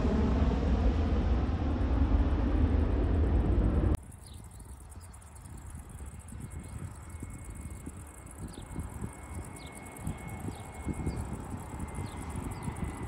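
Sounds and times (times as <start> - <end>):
distant jet airliner whine: 0.0 - 13.0
wind rumble on microphone: 0.0 - 13.0.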